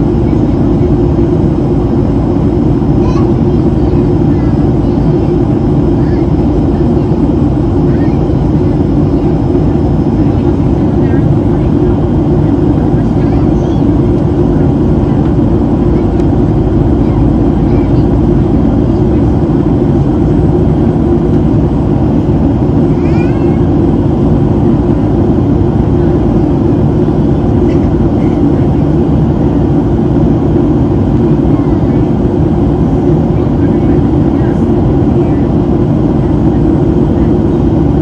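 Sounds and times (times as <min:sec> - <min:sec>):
airplane cabin roar: 0:00.0 - 0:38.0.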